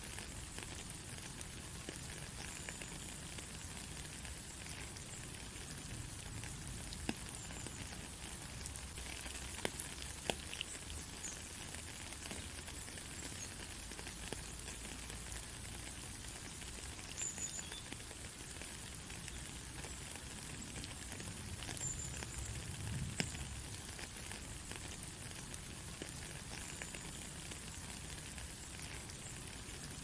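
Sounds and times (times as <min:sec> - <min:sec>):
rain hissing on a road: 0:00.0 - 0:30.0.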